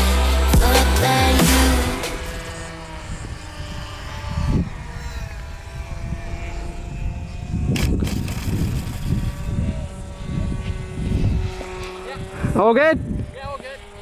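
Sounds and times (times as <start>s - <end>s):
electric ducted fans whining: 0.0s - 14.0s
wind buffeting microphone: 1.7s - 14.0s.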